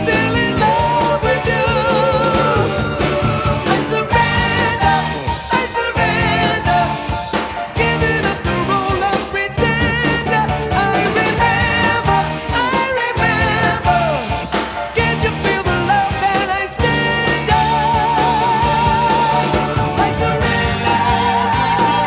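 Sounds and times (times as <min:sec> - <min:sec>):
song with vocals and drums: 0:00.0 - 0:22.0.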